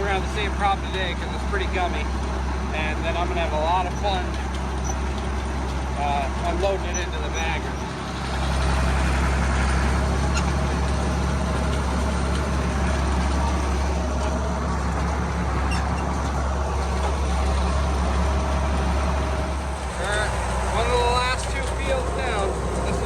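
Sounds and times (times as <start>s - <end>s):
diesel farm machinery droning: 0.0s - 23.0s.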